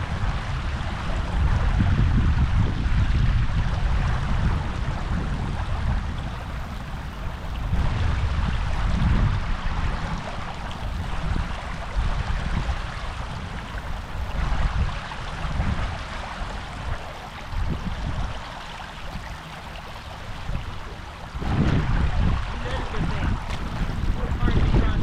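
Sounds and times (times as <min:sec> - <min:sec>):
wind buffeting microphone: 0:00.0 - 0:25.0
river water rushing: 0:03.7 - 0:25.0.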